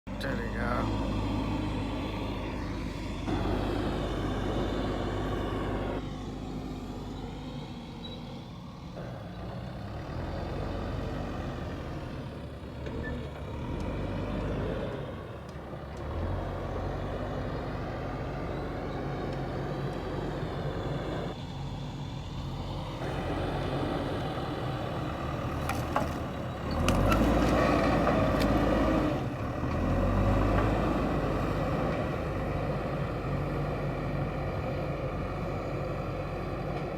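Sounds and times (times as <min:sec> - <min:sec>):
diesel engine revving: 0:00.0 - 0:36.9.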